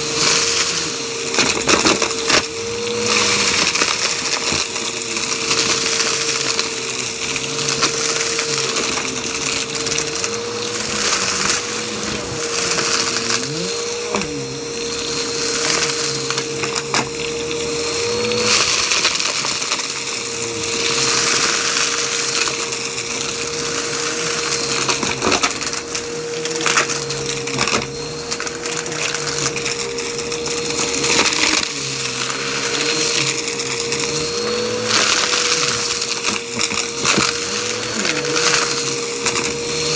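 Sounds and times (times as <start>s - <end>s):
vacuum cleaner motor whine: 0.0s - 39.9s
debris crackling and rattling: 0.1s - 39.9s.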